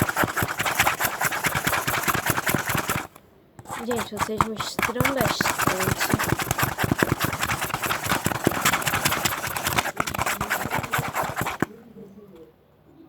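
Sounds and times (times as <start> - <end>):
utensil stirring and scraping container: 0.0 - 11.7.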